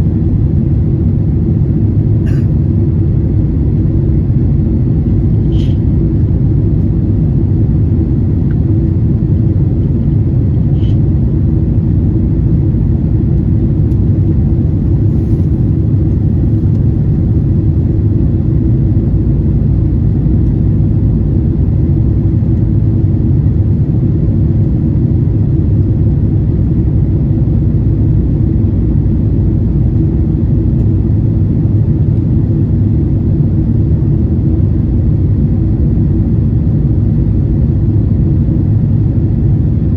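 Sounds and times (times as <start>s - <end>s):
jet engines and rushing air: 0.0s - 39.9s.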